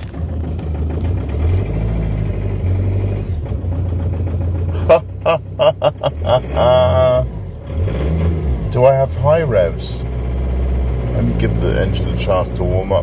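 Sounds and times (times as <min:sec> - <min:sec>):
van engine running: 0:00.0 - 0:13.0.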